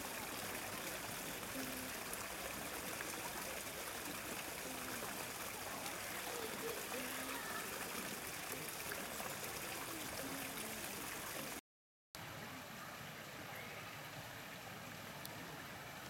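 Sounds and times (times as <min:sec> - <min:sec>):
running water rushing: 0:00.0 - 0:11.6, 0:12.2 - 0:16.0.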